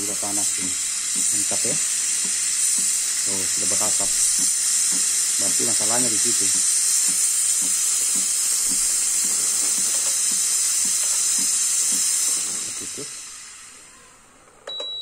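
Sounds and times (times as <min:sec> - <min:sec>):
steam wand hissing: 0:00.0 - 0:14.2.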